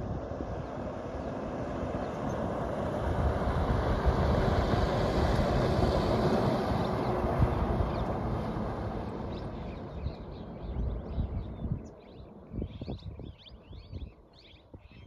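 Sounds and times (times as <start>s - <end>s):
vehicle driving on dirt track: 0.0s - 13.0s.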